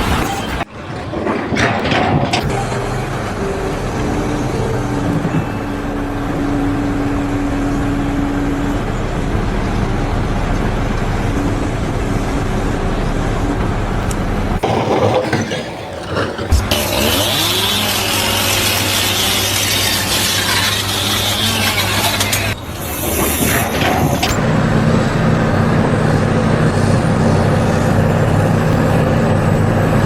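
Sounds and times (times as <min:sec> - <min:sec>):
heavy engine rumbling: 0:00.0 - 0:30.0.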